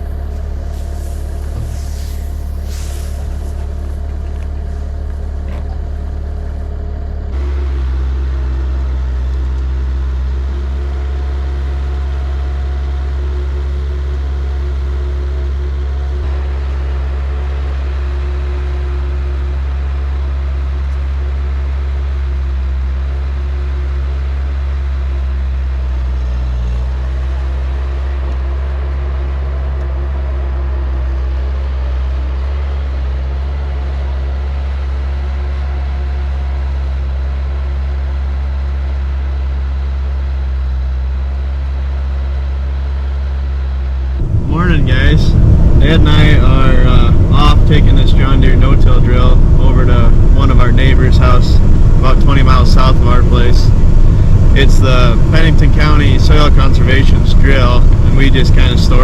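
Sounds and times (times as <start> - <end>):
vehicle engine droning: 0.0 - 59.0.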